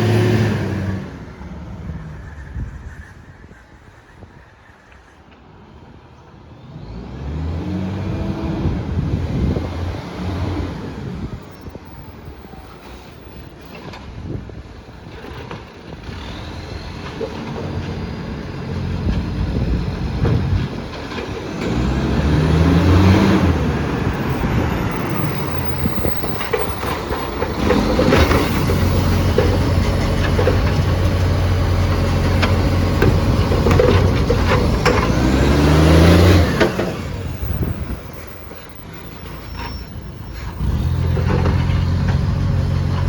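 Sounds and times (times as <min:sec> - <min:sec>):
truck diesel engine revving: 0:00.0 - 0:02.6, 0:06.7 - 0:11.4, 0:15.9 - 0:43.0.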